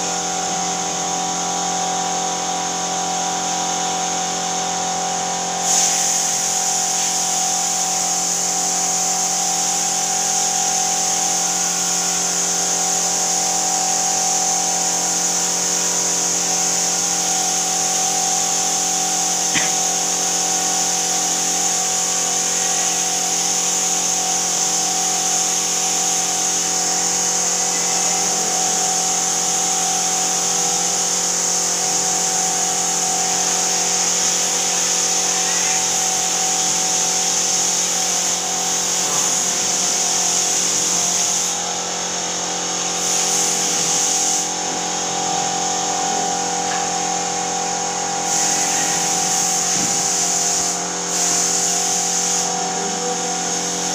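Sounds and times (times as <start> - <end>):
air compressor motor humming: 0.0 - 53.9
spray gun hissing: 0.0 - 53.9.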